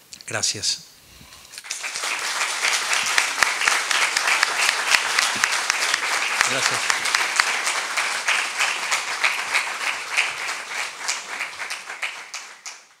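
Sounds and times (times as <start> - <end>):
audience applauding: 1.6 - 13.0.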